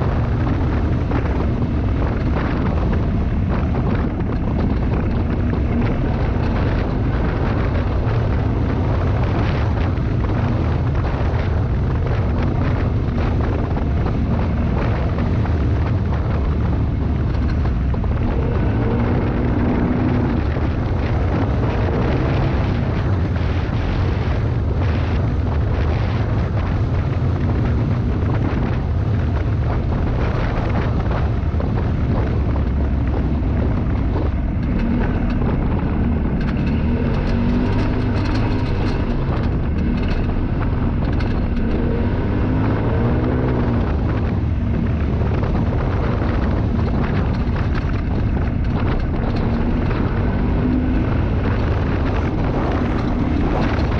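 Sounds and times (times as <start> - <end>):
off-road vehicle engine rumble: 0.0 - 53.9
rattles from rough ground: 0.0 - 53.9
wind noise on microphone: 0.0 - 53.9.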